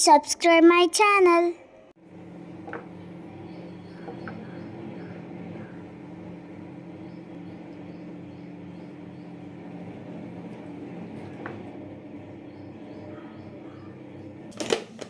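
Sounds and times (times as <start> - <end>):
low mechanical hum: 1.6 - 15.0.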